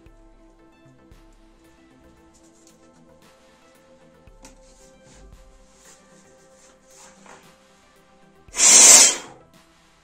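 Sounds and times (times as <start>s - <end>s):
quiet background music: 0.0s - 8.5s.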